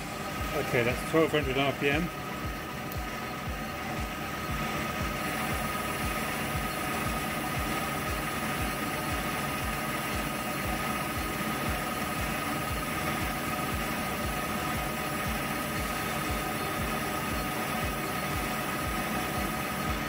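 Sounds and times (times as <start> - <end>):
high whine: 0.0 - 20.0
lathe machine hum: 0.0 - 20.0.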